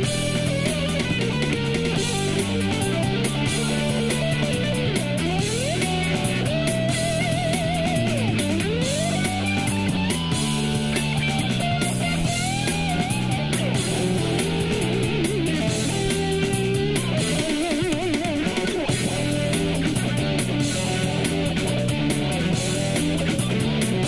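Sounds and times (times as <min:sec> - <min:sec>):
backing track drums: 0:00.0 - 0:24.0
electric ukulele melody: 0:00.0 - 0:24.0.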